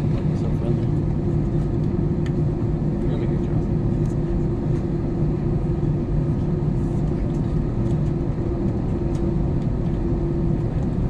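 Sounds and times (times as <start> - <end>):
jet engine and airframe rumble: 0.0 - 11.0.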